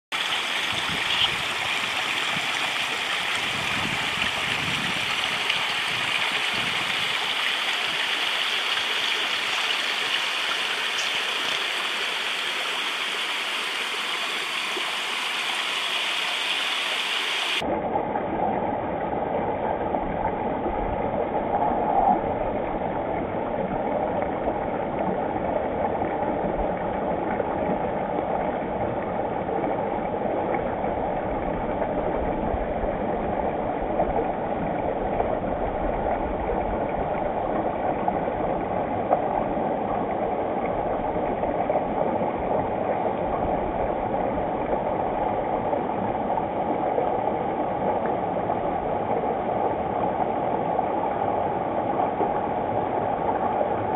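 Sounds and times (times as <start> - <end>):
creek water rushing: 0.1 - 17.7, 19.4 - 53.9.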